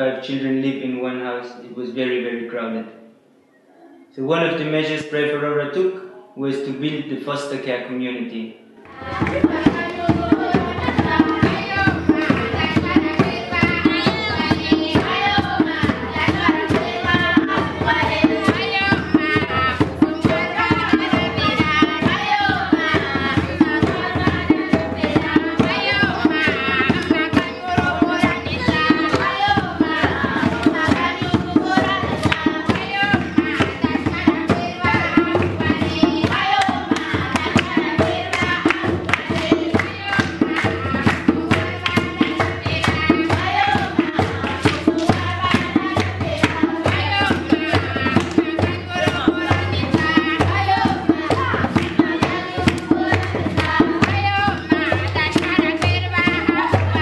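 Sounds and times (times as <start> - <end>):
children singing: 8.8 - 57.0
rhythmic hand-clapping: 8.9 - 57.0.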